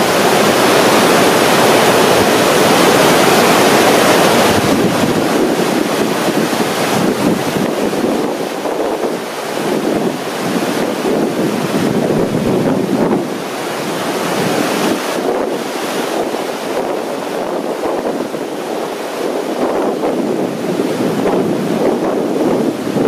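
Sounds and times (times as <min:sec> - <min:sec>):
rapids churning water: 0:00.0 - 0:23.0.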